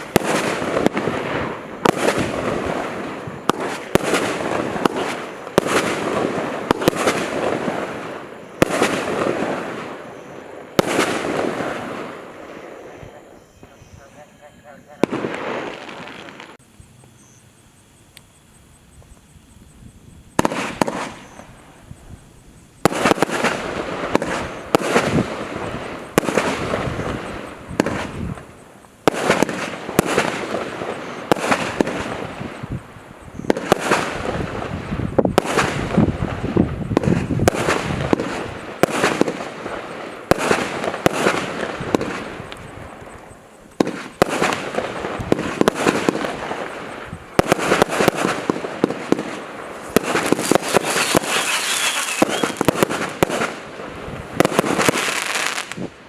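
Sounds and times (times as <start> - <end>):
firework bangs with echoes: 0.0 - 13.8, 15.0 - 16.6, 20.4 - 21.6, 22.8 - 32.8, 33.4 - 43.2, 43.8 - 55.9.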